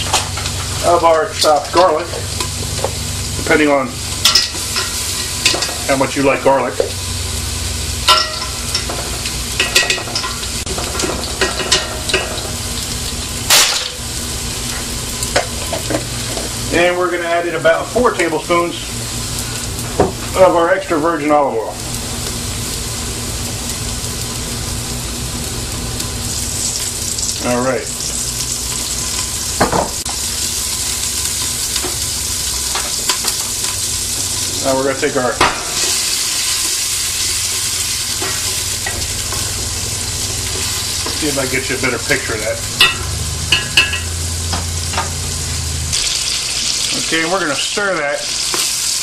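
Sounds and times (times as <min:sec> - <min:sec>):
food sizzling in a pot: 0:00.0 - 0:49.0.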